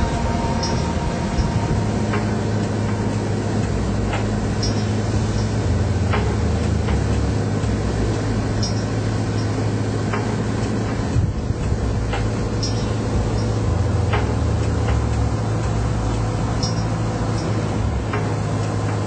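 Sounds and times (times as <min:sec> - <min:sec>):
aircraft engine hum: 0:00.0 - 0:19.0
rushing noise: 0:00.0 - 0:19.0.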